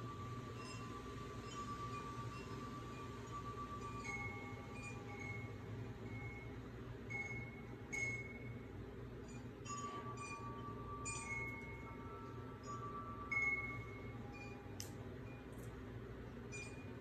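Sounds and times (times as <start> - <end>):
wind chimes ringing: 0.0 - 6.5, 7.1 - 14.9
low steady hum: 0.0 - 17.0.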